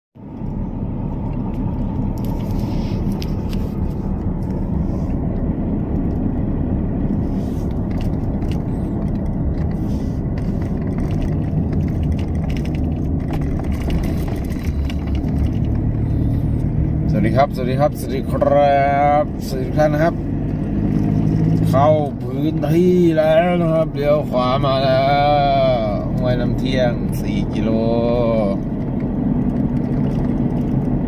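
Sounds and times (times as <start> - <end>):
light rattles and clicks: 0.2 - 31.0
vehicle engine and road noise: 0.2 - 31.0.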